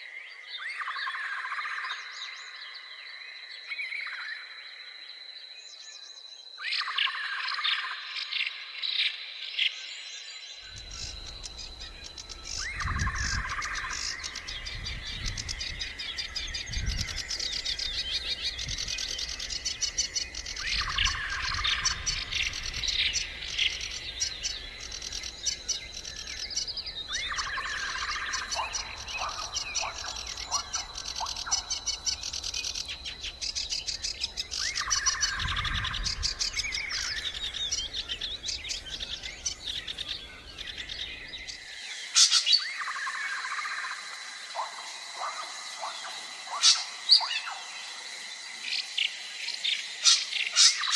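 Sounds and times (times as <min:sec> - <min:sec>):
birds chirping and singing: 0:05.5 - 0:50.9.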